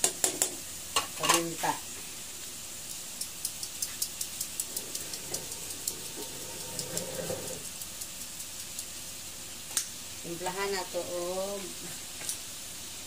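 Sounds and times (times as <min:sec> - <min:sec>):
chicken sizzling in oil: 0:00.1 - 0:13.0.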